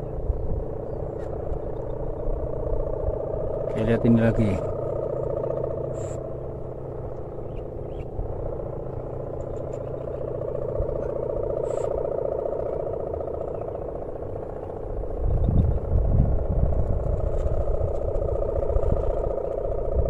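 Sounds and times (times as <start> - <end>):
kite hummer droning: 0.0 - 20.0.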